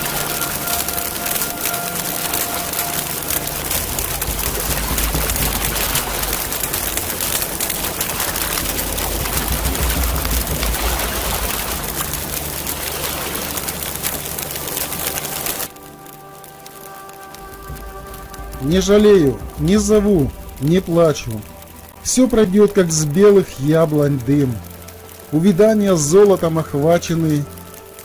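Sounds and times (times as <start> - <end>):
low rumble: 0.0 - 25.9
campfire crackling and popping: 0.0 - 28.0.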